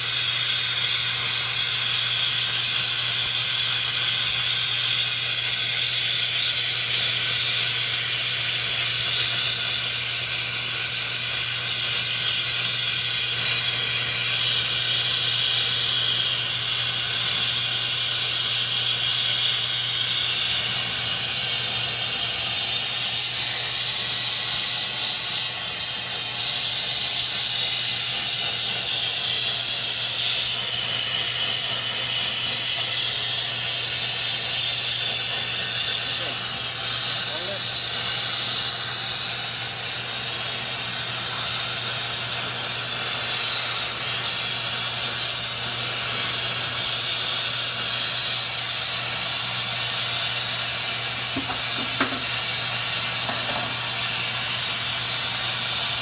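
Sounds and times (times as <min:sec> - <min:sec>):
torch flame hissing: 0:00.0 - 0:56.0.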